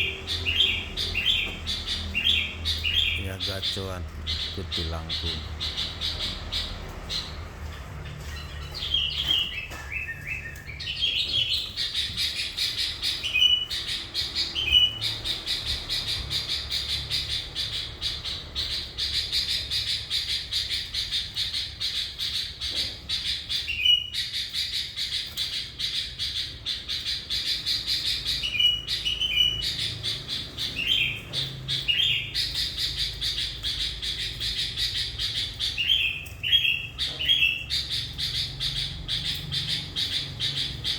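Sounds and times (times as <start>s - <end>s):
bird rapid high chattering: 0.0s - 40.9s.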